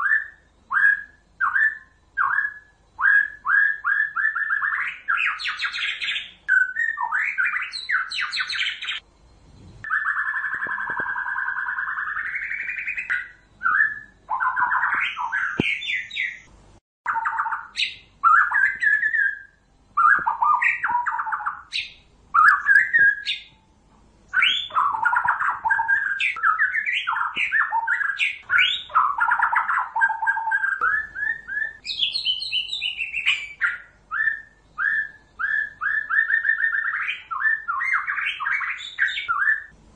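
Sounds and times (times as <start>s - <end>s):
bird singing whistled phrases: 0.0s - 9.0s, 9.8s - 16.5s, 17.1s - 23.6s, 24.3s - 39.8s.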